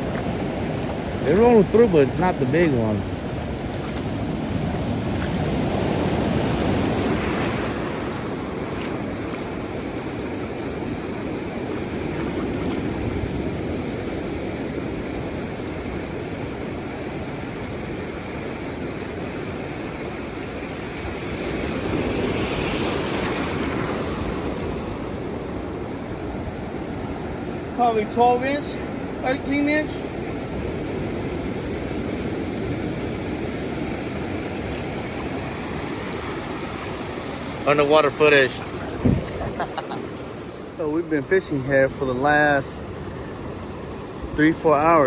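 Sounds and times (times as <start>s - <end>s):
ocean surf breaking: 0.0s - 45.0s.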